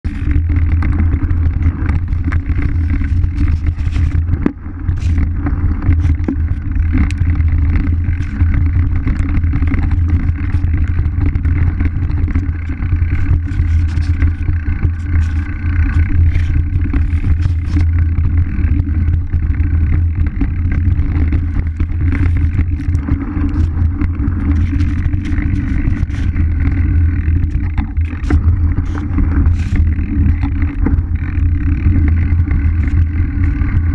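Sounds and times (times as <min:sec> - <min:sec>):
bike rattling over bumps: 0:00.0 - 0:33.9
wind buffeting on microphone: 0:00.0 - 0:33.9.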